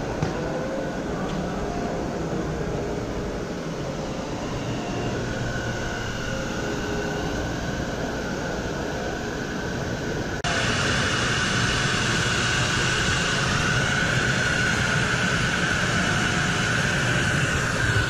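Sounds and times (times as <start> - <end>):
busy hall rushing noise: 0.0 - 18.0
faint high whine: 0.0 - 18.0.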